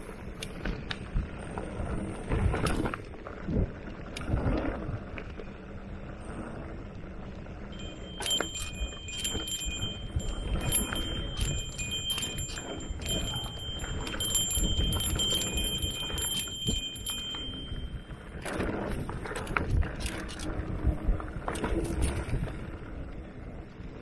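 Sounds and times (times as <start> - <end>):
bike rolling over bumps: 0.0 - 24.0.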